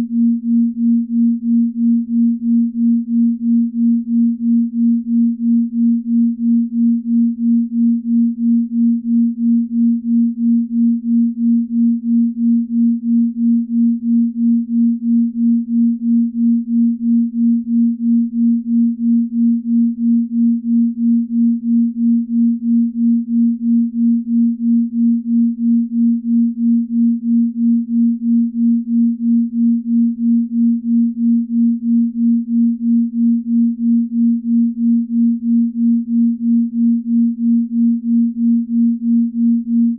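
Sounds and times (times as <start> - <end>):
low pulsing pure tone: 0.0 - 39.9.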